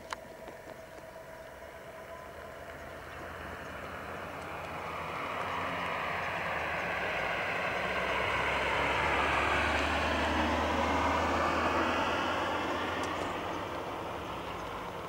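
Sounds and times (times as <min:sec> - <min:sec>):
train engine drone: 0:00.0 - 0:15.0
wheels rumbling on rails: 0:00.0 - 0:15.0.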